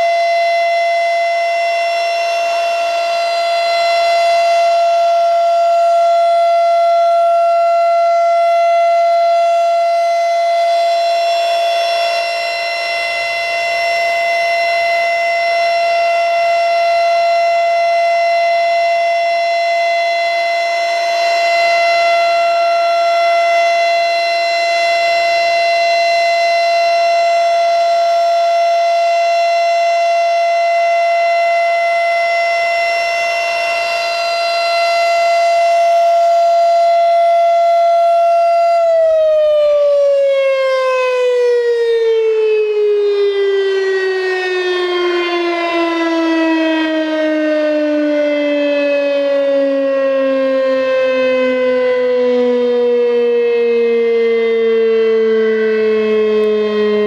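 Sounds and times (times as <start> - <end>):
warning siren: 0.0 - 57.0.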